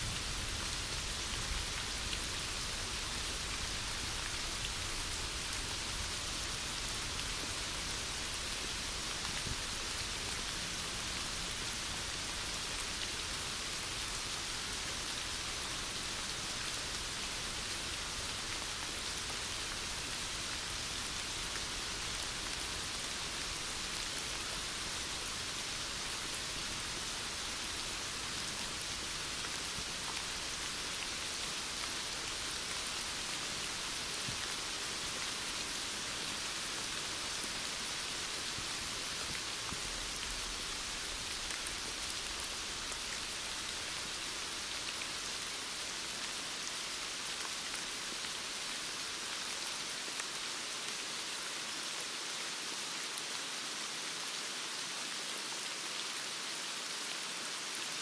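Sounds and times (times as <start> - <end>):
heavy rain falling: 0.0 - 51.8.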